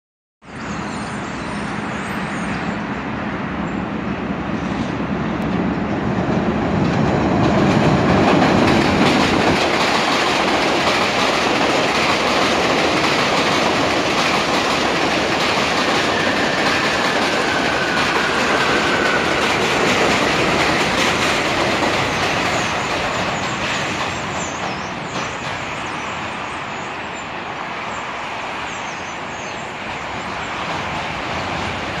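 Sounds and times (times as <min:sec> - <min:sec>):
train rumble and clatter: 0:00.5 - 0:32.0.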